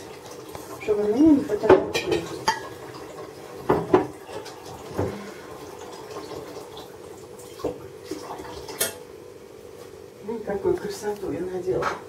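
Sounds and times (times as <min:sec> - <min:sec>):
low household hum: 0:00.0 - 0:12.0.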